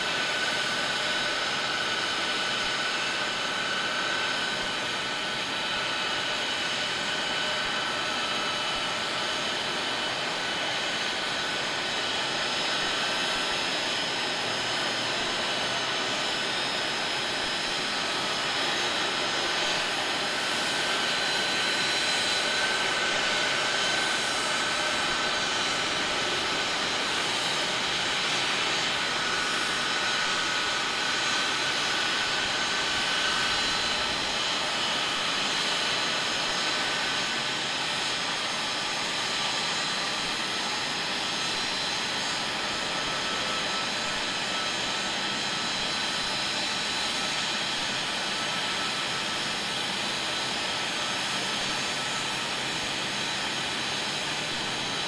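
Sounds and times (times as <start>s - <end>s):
jet engines whining at taxi: 0.0s - 55.0s.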